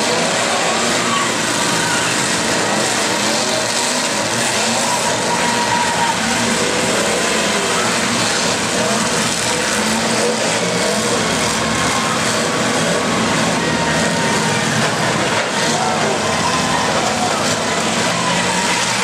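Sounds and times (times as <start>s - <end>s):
many car engines revving: 0.0s - 19.0s.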